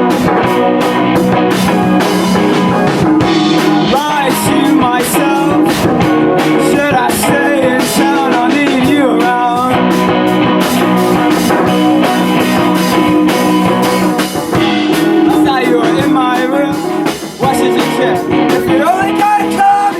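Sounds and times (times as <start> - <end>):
drum kit cymbals: 0.0 - 19.9
electric guitar: 0.0 - 19.9
live rock band playing: 0.0 - 19.9.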